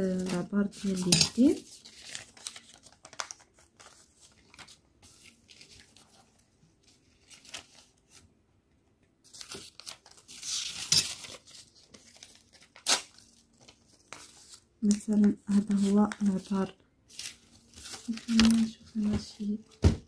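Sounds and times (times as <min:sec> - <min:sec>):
paper rustling and crinkling: 0:00.0 - 0:08.3, 0:09.2 - 0:20.0.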